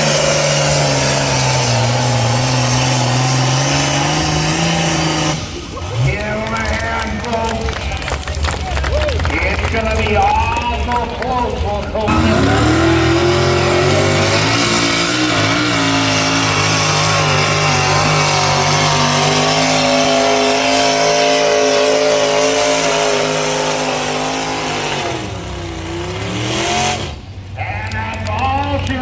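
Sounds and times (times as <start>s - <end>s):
pulling tractor engine roaring: 0.0s - 29.0s.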